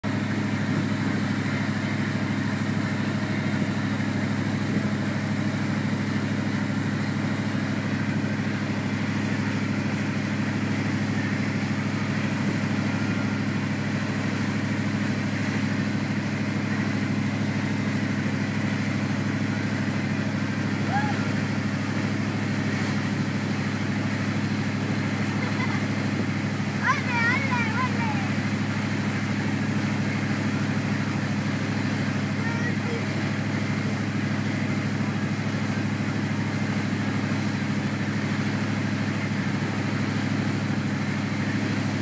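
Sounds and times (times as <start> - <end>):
boat engine droning: 0.0 - 42.0
hiss of churning wake: 0.1 - 42.0.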